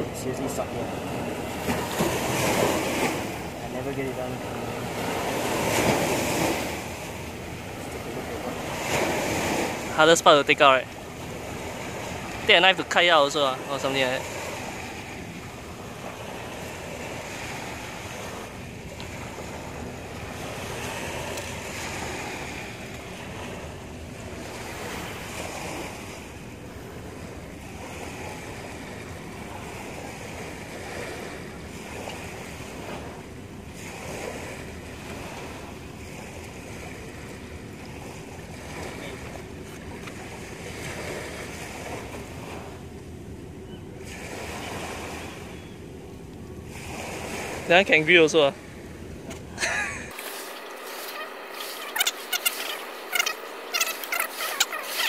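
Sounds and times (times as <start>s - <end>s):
sea waves washing against rocks: 0.0s - 43.0s, 46.7s - 55.0s.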